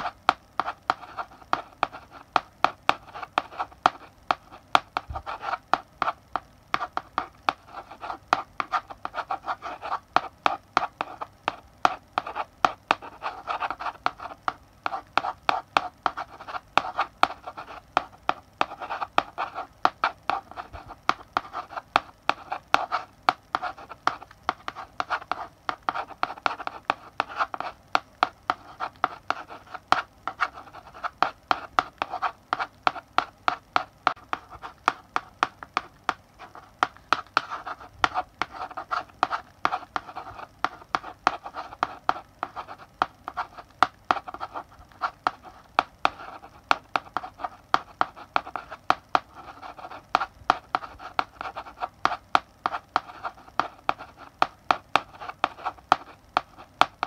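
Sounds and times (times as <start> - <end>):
chalk tapping and scratching: 0.0 - 57.0.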